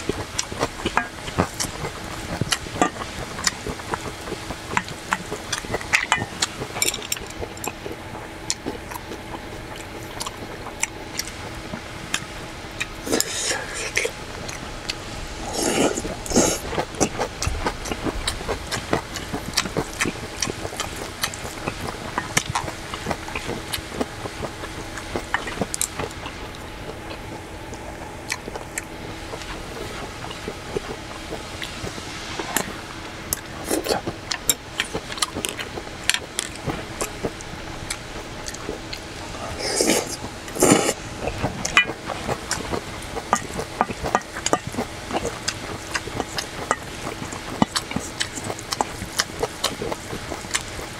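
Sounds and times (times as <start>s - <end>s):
chewing and slurping food: 0.0s - 50.9s
faint steady hum: 0.0s - 50.9s.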